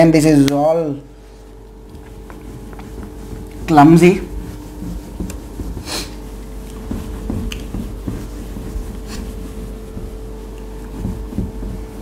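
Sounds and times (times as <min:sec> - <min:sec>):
steady hum: 0:00.0 - 0:12.0
cloth wiping whiteboard: 0:01.1 - 0:12.0.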